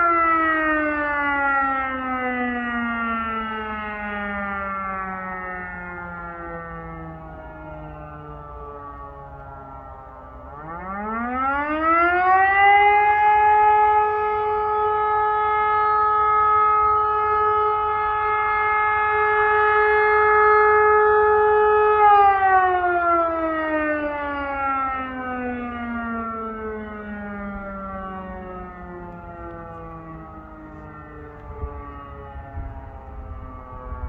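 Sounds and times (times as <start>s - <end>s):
civil defence siren wailing: 0.0s - 34.0s.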